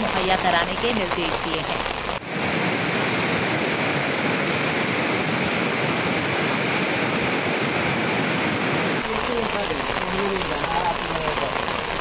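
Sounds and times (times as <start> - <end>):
floodwater roaring: 0.0 - 12.0.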